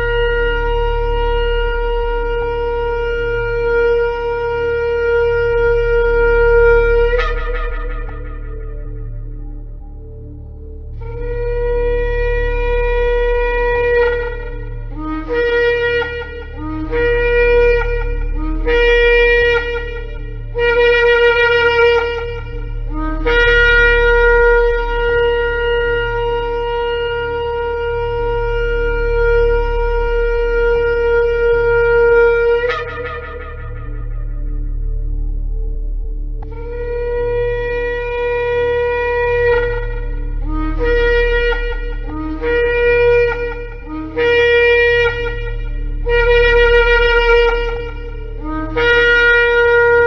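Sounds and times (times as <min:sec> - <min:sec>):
ram's horn blasts: 0:00.0 - 0:50.0.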